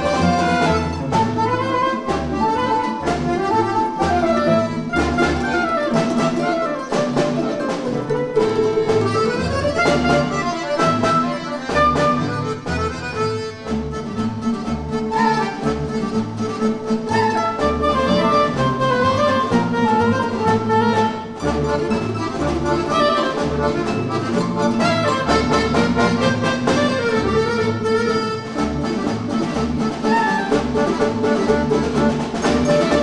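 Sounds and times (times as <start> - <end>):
accordion: 0.0 - 33.0
bowed strings: 0.0 - 33.0
plucked lutes: 0.0 - 33.0.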